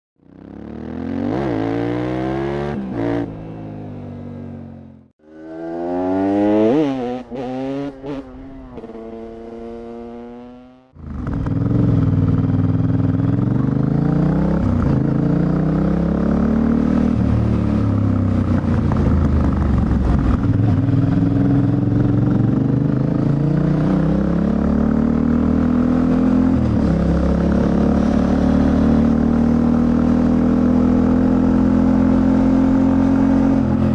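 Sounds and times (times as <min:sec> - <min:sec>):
motorcycle engine revving: 0:00.2 - 0:33.9.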